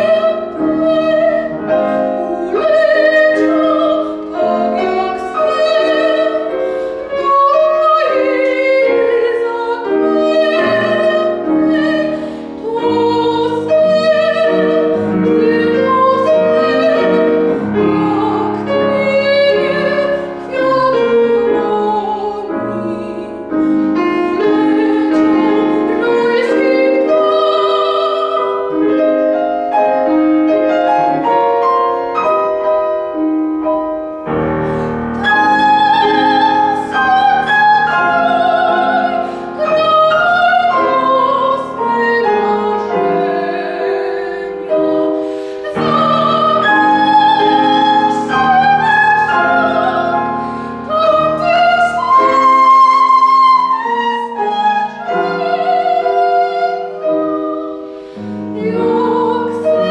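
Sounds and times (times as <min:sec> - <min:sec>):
soprano singing with vibrato: 0:00.0 - 0:32.8, 0:35.1 - 0:59.9
grand piano accompaniment: 0:00.0 - 0:59.9.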